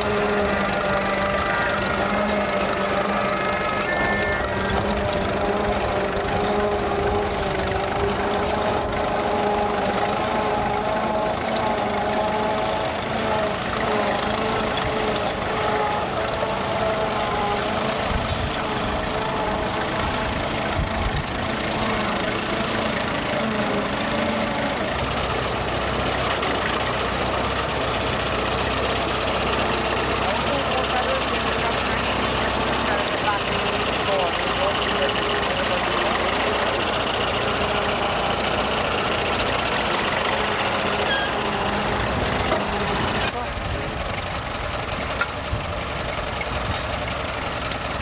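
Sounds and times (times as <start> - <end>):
low hum: 0.0 - 48.0
tractor engine running: 0.0 - 48.0.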